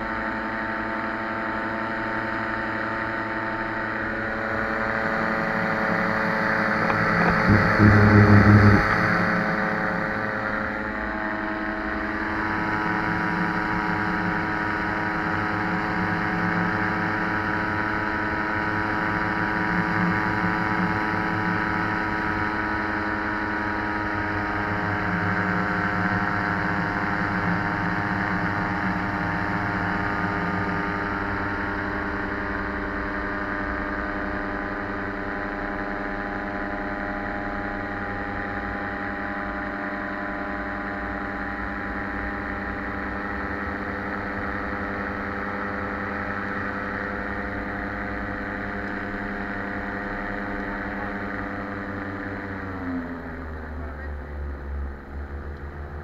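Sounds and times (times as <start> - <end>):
engine and propeller droning: 0.0 - 56.0.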